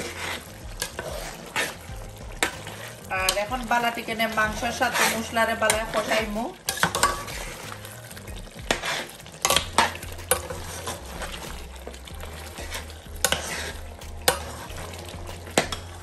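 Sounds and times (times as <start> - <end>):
metal spoon scraping pot: 0.0 - 7.9, 8.6 - 16.0
meat sizzling: 0.0 - 16.0.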